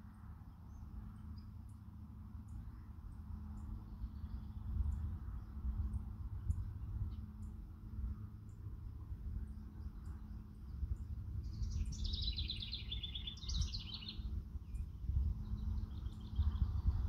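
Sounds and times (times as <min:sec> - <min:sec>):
songbird singing: 0:00.0 - 0:17.0
wind rumble on microphone: 0:00.0 - 0:17.0.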